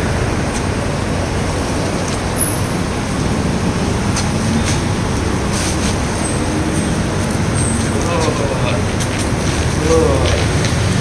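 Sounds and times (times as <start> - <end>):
car traffic rumble in parking garage: 0.0 - 11.0.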